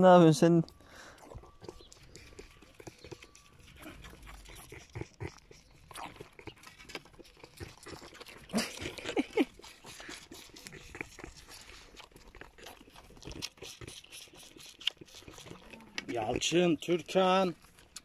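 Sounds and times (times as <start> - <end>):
goat kids suckling: 0.0 - 18.0.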